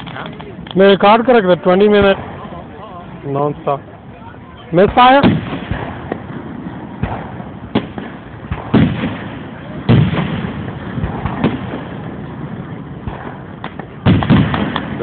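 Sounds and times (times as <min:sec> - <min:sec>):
fireworks bangs: 0:00.0 - 0:03.8, 0:04.6 - 0:15.0.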